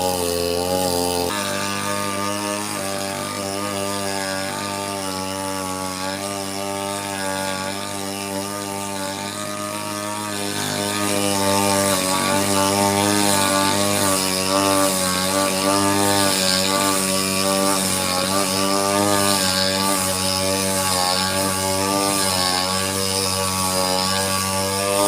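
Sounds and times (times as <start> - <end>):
brush cutter engine cutting grass: 0.0 - 25.0.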